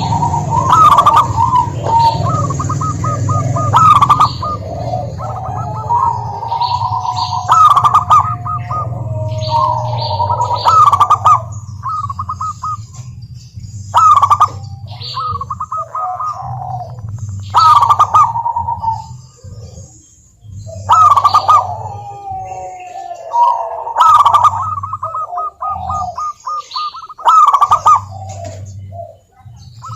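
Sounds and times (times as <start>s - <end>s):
doves cooing: 0.0s - 29.9s
loud rolling bird call: 0.0s - 29.9s
steady low hum: 0.0s - 29.9s.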